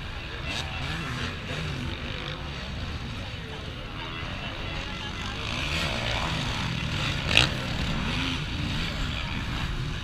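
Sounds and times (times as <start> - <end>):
motorcycle engines revving: 0.0 - 10.0.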